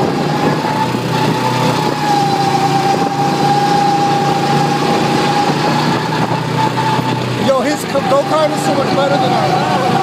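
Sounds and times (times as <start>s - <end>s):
go-kart engine running: 0.0s - 10.0s.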